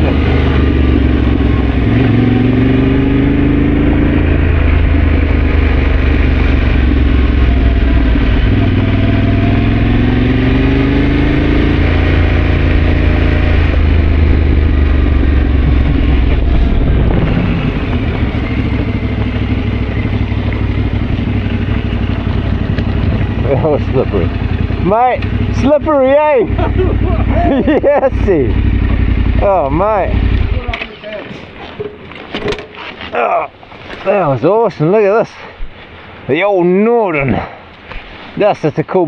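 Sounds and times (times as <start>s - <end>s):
motorcycle engine accelerating: 0.0s - 32.1s.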